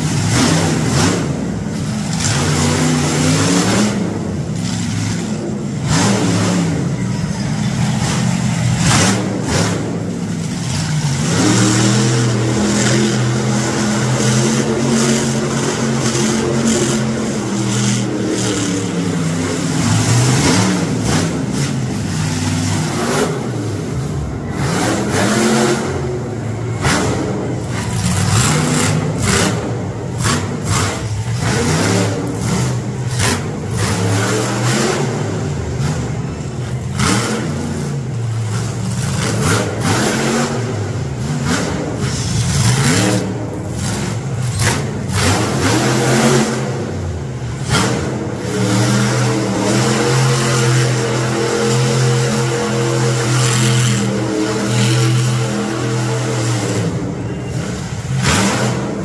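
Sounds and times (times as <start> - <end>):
monster truck engines revving: 0.0 - 59.0.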